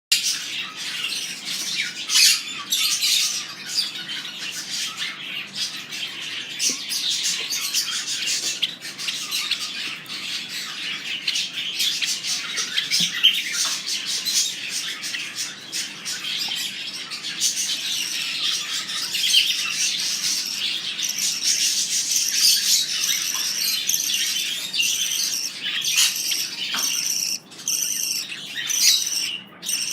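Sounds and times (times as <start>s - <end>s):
bird chicks chirping shrilly: 0.1s - 29.9s.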